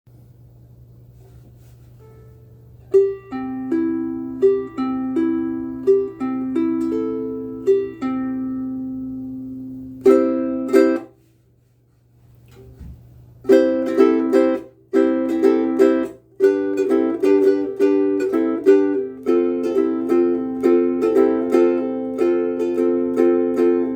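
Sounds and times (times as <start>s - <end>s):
faint low hum: 0.1s - 23.9s
ukulele notes plucked: 2.0s - 11.2s, 13.4s - 23.9s
ukulele chords strummed: 2.0s - 11.3s, 13.4s - 23.9s.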